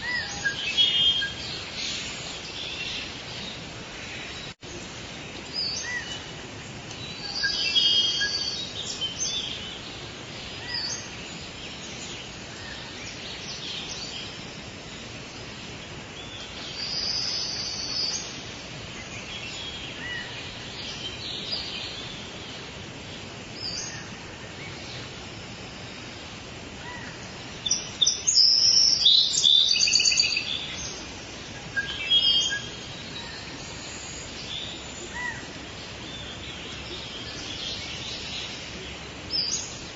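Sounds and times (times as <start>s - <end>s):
birds calling and chirping: 0.0s - 39.9s
forest background hiss: 0.0s - 39.9s.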